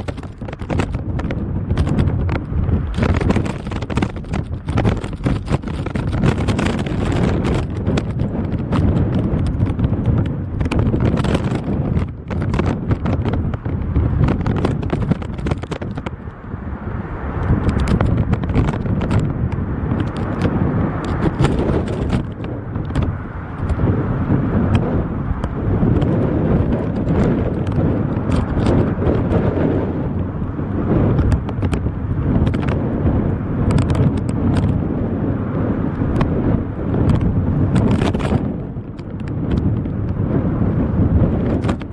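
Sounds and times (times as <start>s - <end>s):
airliner engine and airflow rush: 0.0s - 41.9s.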